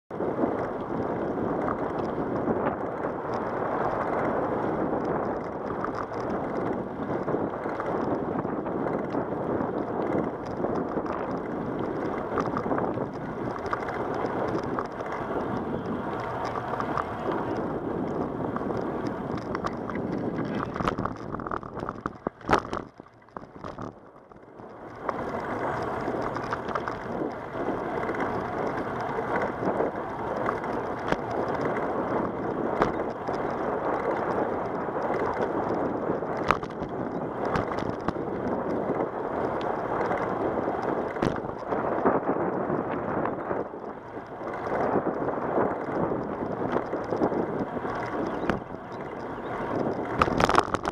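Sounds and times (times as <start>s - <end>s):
tyre noise on rough asphalt: 0.1s - 50.9s
wind buffeting microphone: 0.1s - 50.9s.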